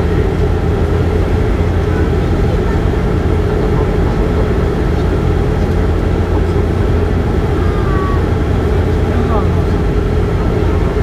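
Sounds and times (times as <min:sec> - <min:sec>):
turboprop engine droning: 0:00.0 - 0:11.0.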